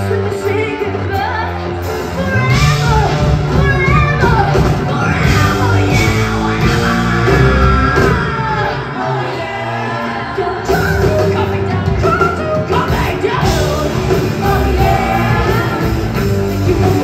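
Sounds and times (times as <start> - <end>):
live rock band playing: 0.0 - 17.0
people singing and yelling: 0.0 - 17.0.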